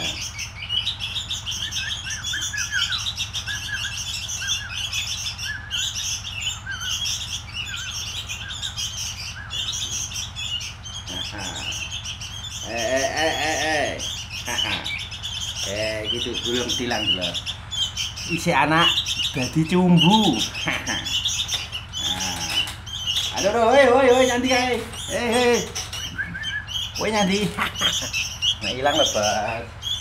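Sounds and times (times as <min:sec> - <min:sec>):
louder lower bird call: 0:00.0 - 0:30.0
steady low hum: 0:00.0 - 0:30.0
young birds chirping: 0:00.0 - 0:30.0.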